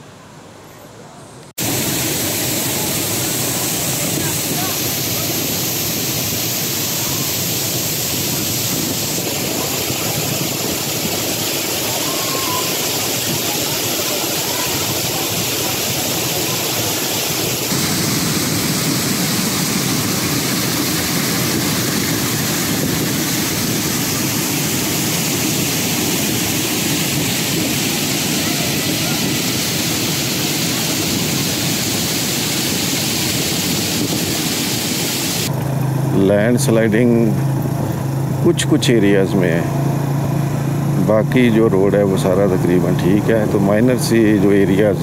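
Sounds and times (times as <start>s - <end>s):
waterfall rushing: 1.6s - 37.1s, 37.7s - 45.0s.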